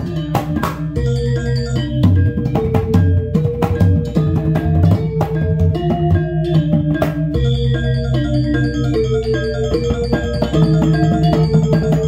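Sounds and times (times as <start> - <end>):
metallophone melody: 0.0 - 12.0.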